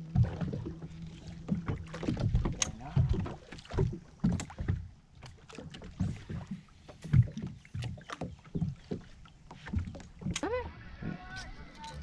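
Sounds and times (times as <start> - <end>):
waves slapping against boat hull: 0.0 - 12.0.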